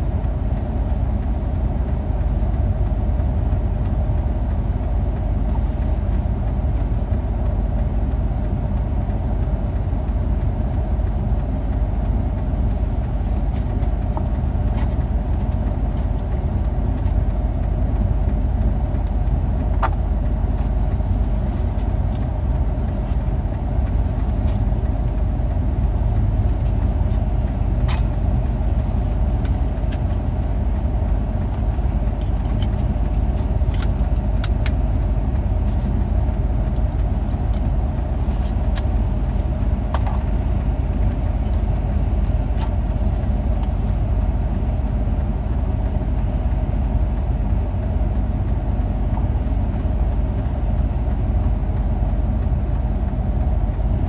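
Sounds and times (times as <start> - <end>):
car driving interior road noise: 0.0 - 54.0.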